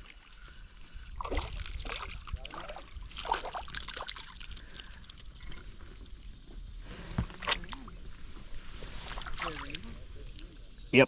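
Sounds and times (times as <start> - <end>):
water sloshing against kayak: 0.0 - 10.7.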